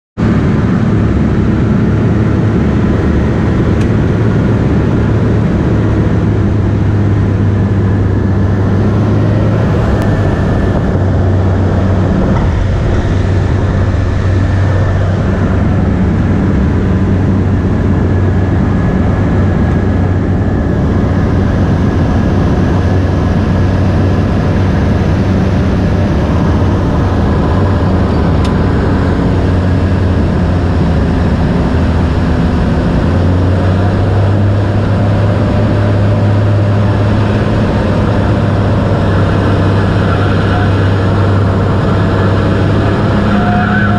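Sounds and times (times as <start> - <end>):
propeller plane engine drone: 0.2 - 43.9.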